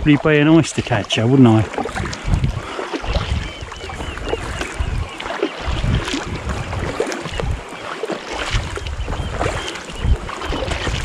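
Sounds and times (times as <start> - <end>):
kayak paddles splashing in water: 0.0 - 11.0.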